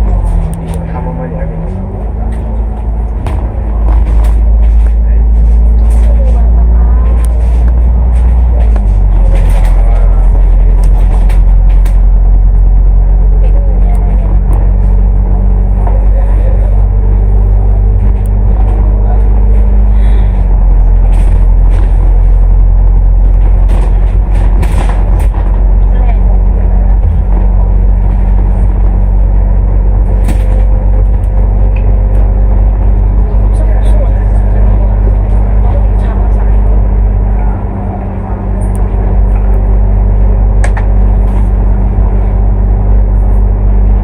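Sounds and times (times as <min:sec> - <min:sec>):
bus diesel engine running: 0:00.0 - 0:44.0.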